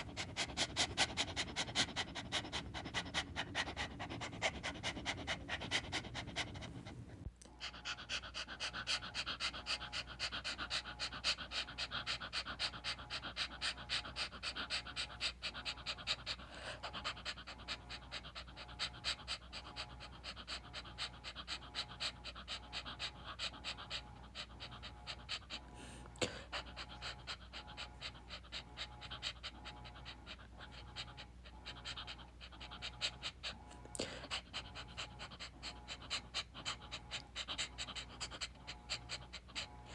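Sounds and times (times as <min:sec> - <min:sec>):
dog panting rapidly: 0:00.0 - 0:39.9.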